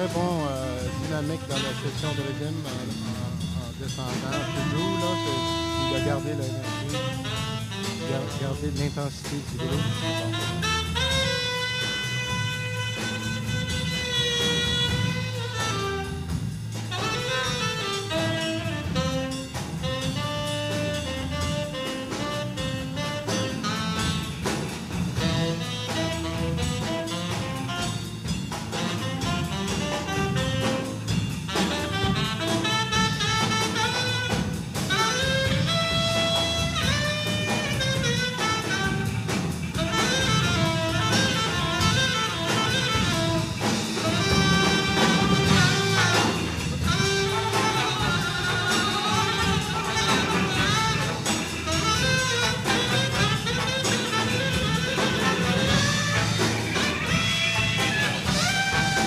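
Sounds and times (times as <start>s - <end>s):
jazz big band playing: 0.0s - 59.0s.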